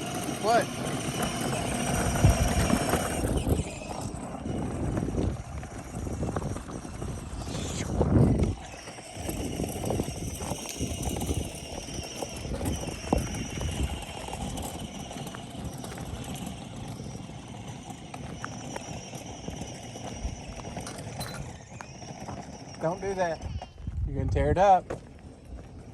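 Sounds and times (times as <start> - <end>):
high-pitched buzz: 0.0 - 24.6
footsteps crunching on dirt trail: 0.0 - 25.9.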